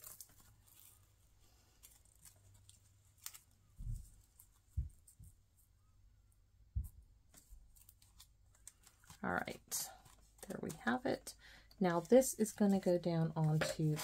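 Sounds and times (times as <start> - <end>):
handling card and ribbon: 0.0 - 5.9, 6.8 - 14.0.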